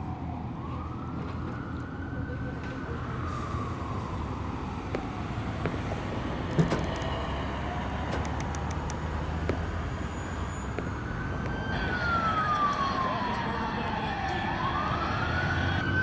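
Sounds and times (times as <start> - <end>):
faint siren: 0.0 - 16.0
low rumble of traffic: 0.0 - 16.0.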